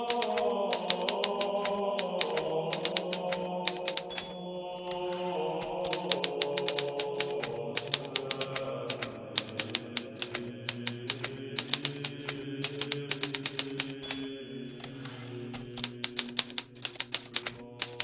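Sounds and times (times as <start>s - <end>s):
typewriter bell ring: 0.0s - 18.0s
typewriter keys striking: 0.0s - 18.0s.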